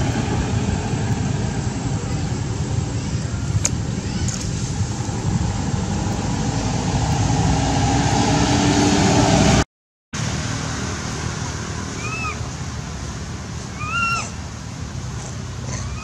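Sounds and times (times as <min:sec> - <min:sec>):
vehicle engine running: 0:00.0 - 0:09.6, 0:10.2 - 0:16.0.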